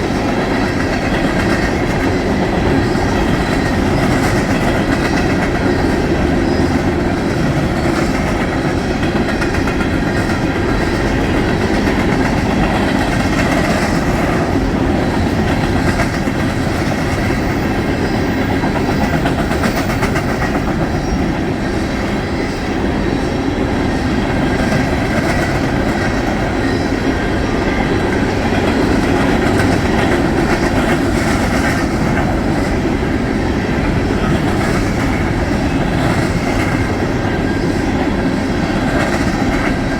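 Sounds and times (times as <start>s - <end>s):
freight wheels rumbling on rails: 0.0s - 39.9s.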